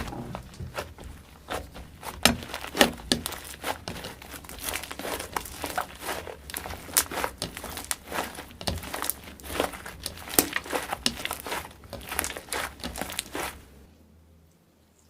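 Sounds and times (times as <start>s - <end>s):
slime squeezed crackling and popping: 0.0s - 13.6s.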